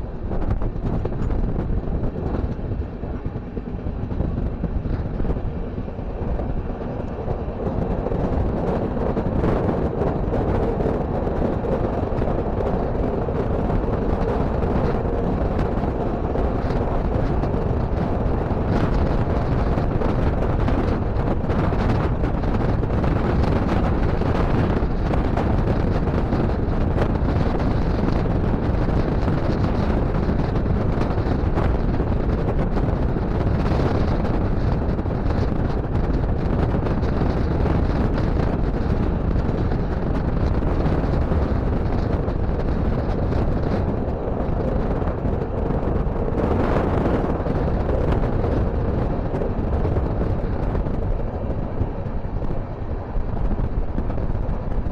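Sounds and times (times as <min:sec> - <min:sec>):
train rolling noise: 0:00.0 - 0:54.9
wind buffeting microphone: 0:00.0 - 0:54.9.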